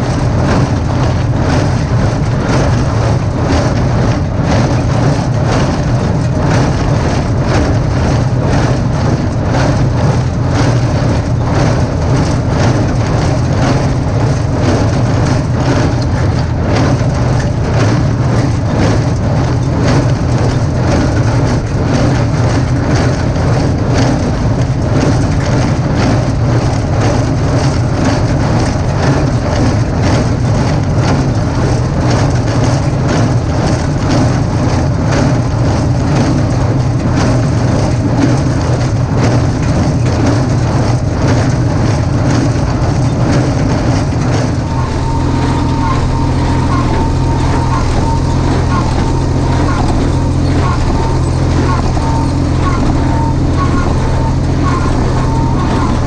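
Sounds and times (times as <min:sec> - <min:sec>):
baler working: 0:00.0 - 0:56.0
tractor diesel engine running: 0:00.0 - 0:56.0.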